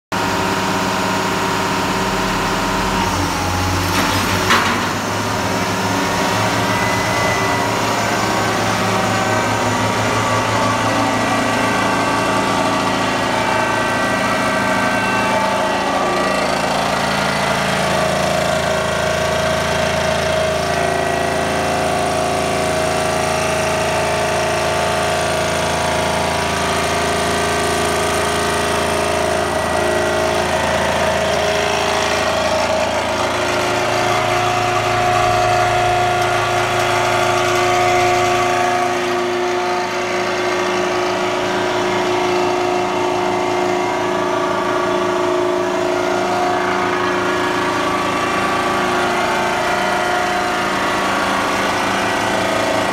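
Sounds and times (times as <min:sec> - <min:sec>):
vibratory pile hammer drone: 0:00.2 - 0:52.9.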